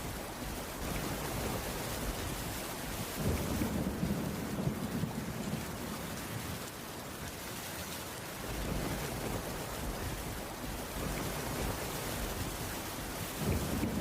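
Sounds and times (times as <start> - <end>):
low thunder rumbles: 0.0 - 6.8, 8.4 - 14.0
heavy rain falling: 0.0 - 14.0.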